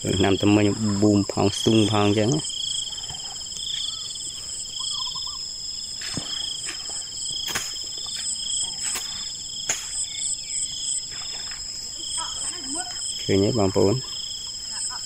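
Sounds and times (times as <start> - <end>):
insects trilling: 0.0 - 15.0
pulsed insect chirp: 0.0 - 15.0.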